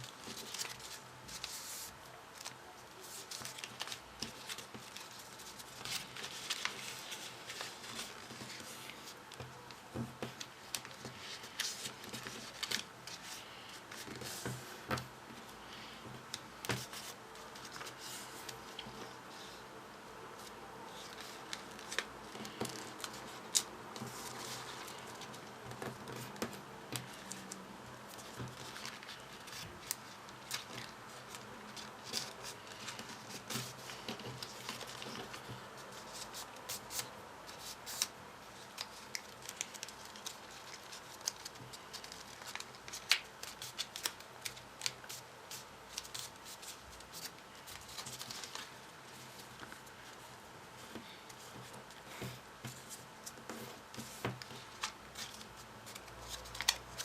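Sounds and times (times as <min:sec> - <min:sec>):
paper clicking and rustling: 0:00.0 - 0:15.1, 0:20.4 - 0:50.3, 0:50.9 - 0:57.0.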